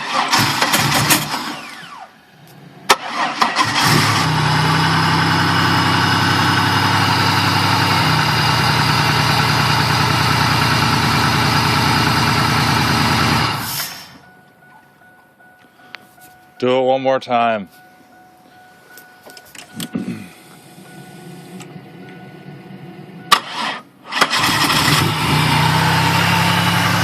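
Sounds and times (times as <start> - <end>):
car engine cranking and running: 0.0 - 14.8, 19.3 - 27.0.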